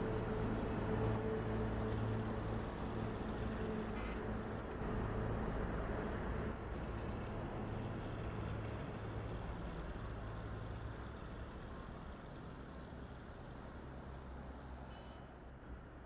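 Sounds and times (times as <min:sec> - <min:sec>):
low outdoor rumble: 0:00.0 - 0:14.6.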